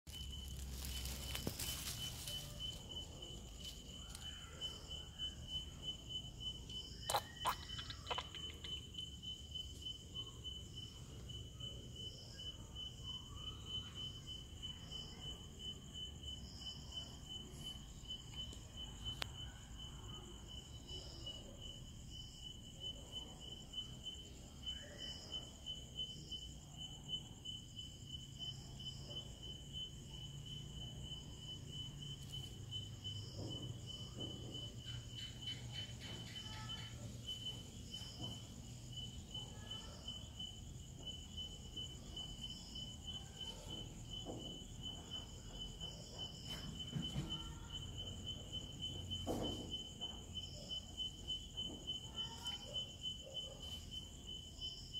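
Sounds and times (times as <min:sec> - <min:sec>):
high-pitched insect chirping: 0:00.1 - 0:54.9.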